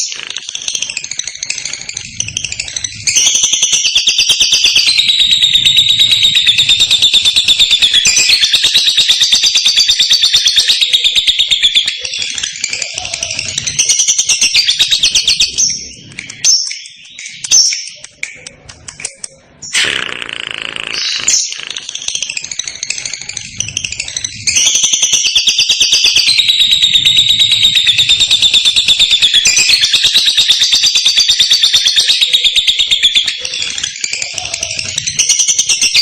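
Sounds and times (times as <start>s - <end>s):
bird chattering trill: 0.0s - 36.0s
bird chirps: 0.0s - 36.0s.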